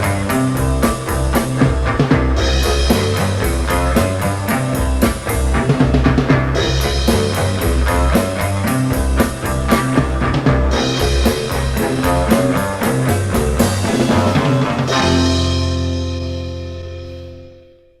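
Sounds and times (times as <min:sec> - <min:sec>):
heavy rock band playing: 0:00.0 - 0:17.6.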